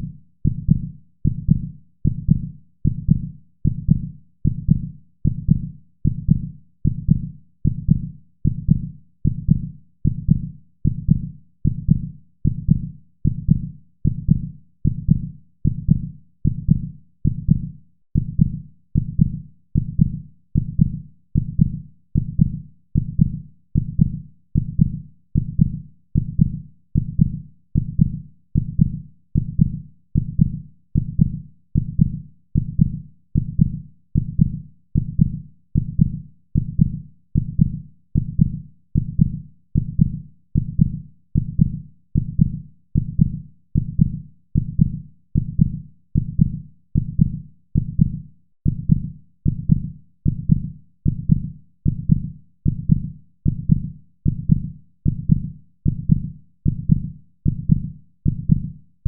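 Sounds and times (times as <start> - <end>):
heartbeat thuds: 0.0 - 58.7.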